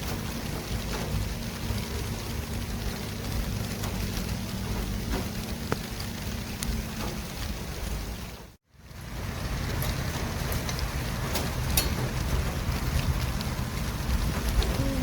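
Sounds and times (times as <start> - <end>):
vehicles rumbling past: 0.0 - 15.0.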